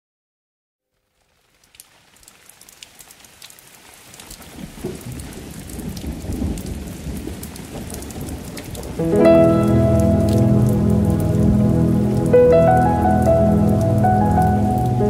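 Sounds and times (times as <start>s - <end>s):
rain falling: 0.9s - 15.0s.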